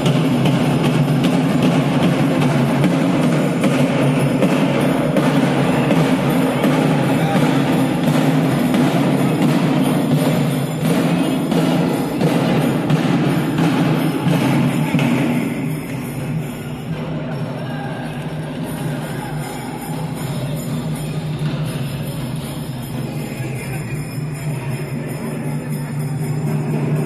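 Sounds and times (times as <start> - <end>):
crowd din: 0.0 - 27.0
jingling percussion: 0.0 - 27.0
procession drumming: 0.0 - 27.0.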